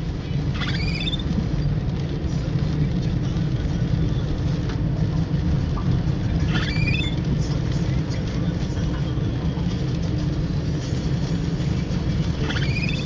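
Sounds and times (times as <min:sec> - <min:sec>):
car interior engine and tyre noise: 0:00.0 - 0:13.0.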